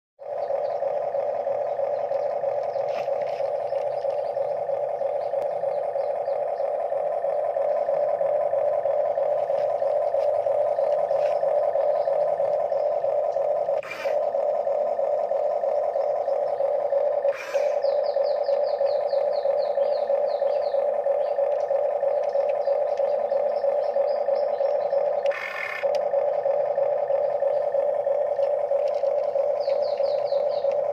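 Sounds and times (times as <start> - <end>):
electric motor whine: 0.2 - 30.9
high chirps: 0.2 - 30.9
motor click: 0.5 - 30.9.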